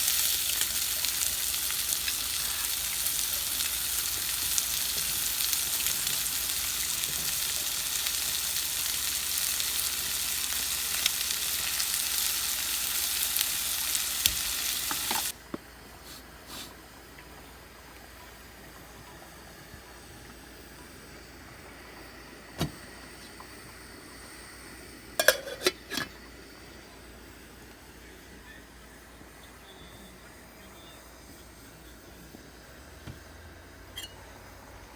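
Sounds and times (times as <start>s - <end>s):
food sizzling: 0.0s - 34.9s.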